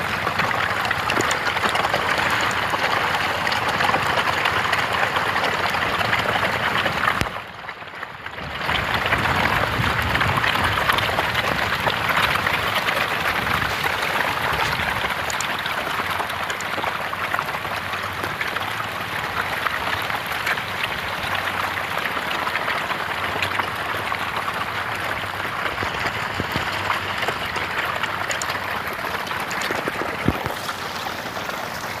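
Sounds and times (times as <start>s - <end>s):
fish splashing in water: 0.0s - 32.0s.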